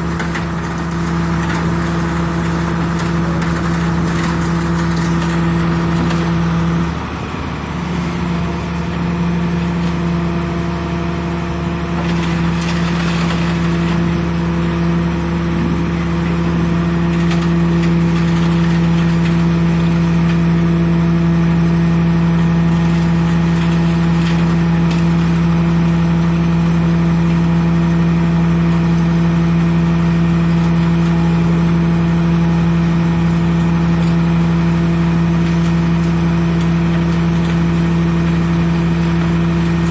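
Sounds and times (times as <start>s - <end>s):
power unit humming: 0.0s - 39.9s.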